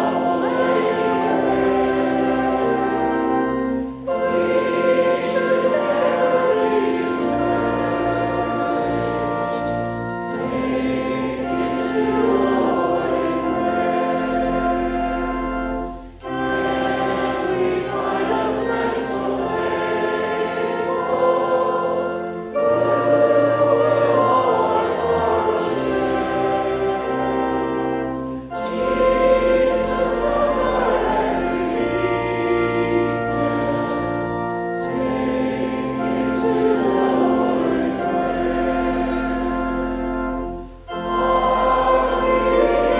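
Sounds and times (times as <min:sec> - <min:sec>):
congregation singing a hymn: 0:00.0 - 0:42.9
organ chords: 0:00.0 - 0:42.9.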